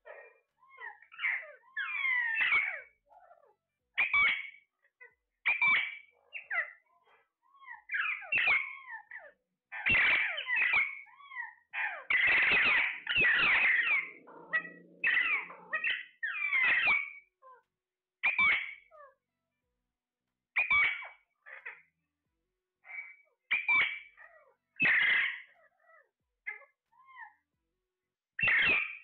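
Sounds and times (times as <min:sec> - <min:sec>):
parakeets calling: 0:00.1 - 0:17.6, 0:18.2 - 0:19.2, 0:20.6 - 0:22.0, 0:22.8 - 0:27.4, 0:28.4 - 0:29.0.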